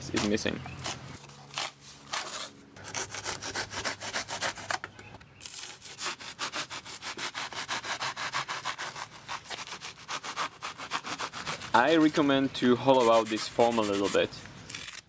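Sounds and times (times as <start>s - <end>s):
knife sawing through foam: 0.1s - 4.8s, 5.4s - 15.0s.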